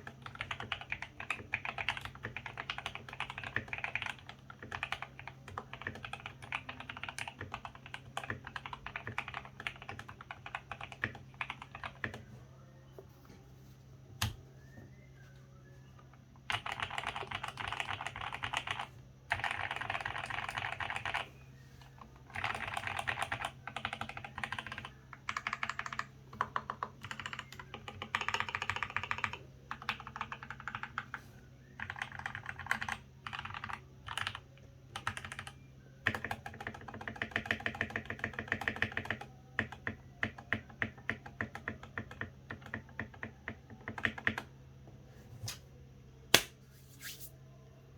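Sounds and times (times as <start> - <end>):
mechanical keyboard typing: 0.0 - 12.3, 16.5 - 21.3, 22.3 - 31.2, 31.8 - 44.5
faint steady hum: 0.0 - 47.9.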